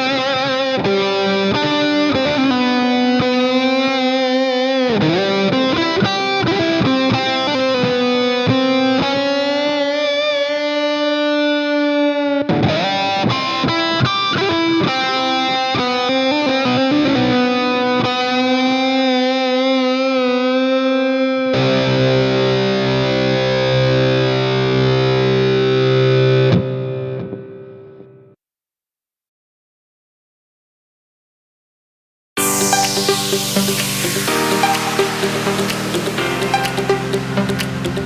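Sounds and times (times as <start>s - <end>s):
distorted electric guitar: 0.0s - 28.4s, 32.4s - 38.0s.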